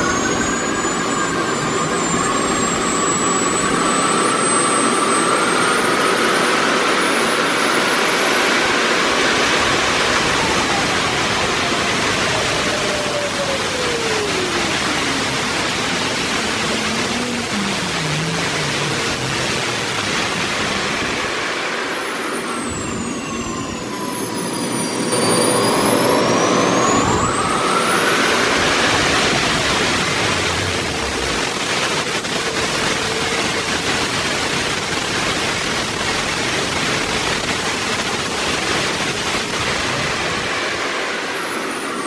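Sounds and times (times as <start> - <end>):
turbine engines whining: 0.0 - 42.0.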